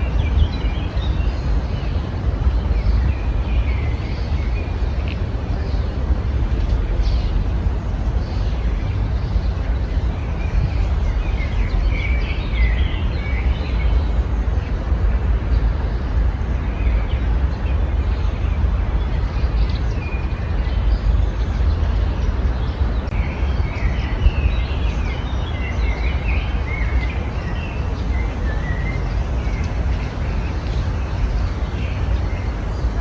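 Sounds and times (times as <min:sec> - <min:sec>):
songbirds chirping and twittering: 0:00.0 - 0:33.0
steady low rumble: 0:00.0 - 0:33.0.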